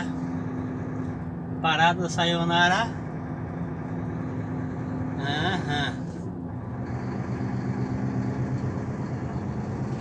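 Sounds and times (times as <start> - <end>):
road noise: 0.0 - 10.0
vehicle engine running: 0.0 - 10.0.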